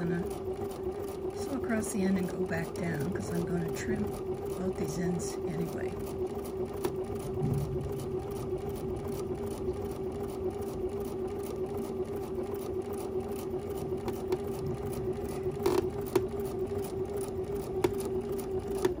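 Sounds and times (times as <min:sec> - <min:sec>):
sewing machine running: 0:00.0 - 0:19.0.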